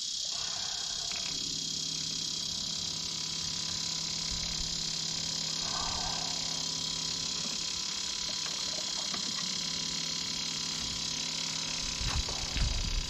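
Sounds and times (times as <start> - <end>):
fuel pump whirring: 0.0 - 13.0.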